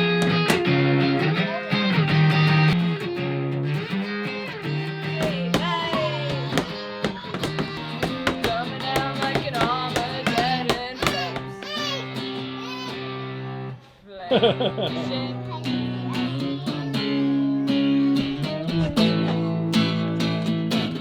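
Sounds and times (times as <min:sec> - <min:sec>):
plucked and strummed guitar: 0:00.0 - 0:21.0.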